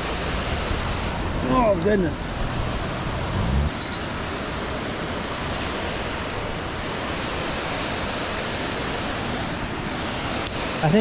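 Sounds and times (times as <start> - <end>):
fast-flowing creek water: 0.0 - 11.0.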